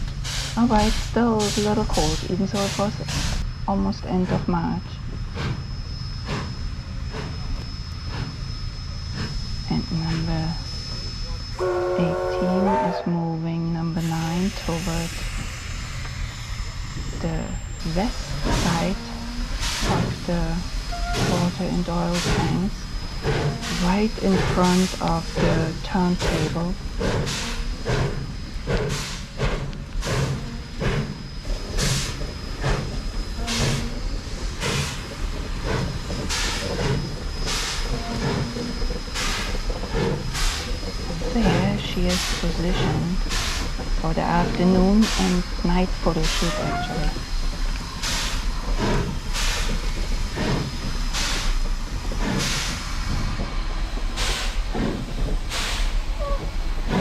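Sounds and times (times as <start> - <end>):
rumble and hiss of steam: 0.0 - 57.0
steam locomotive exhaust chuffs: 0.0 - 57.0.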